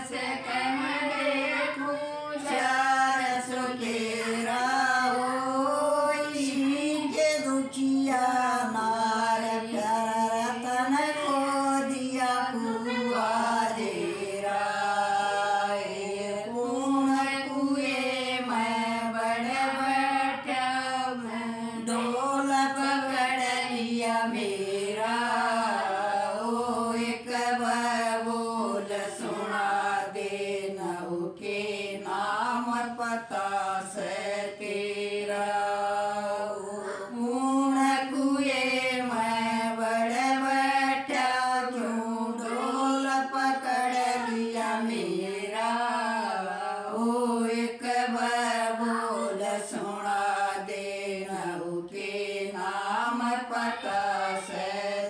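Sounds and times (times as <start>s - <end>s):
women singing folk song unaccompanied: 0.0s - 55.0s.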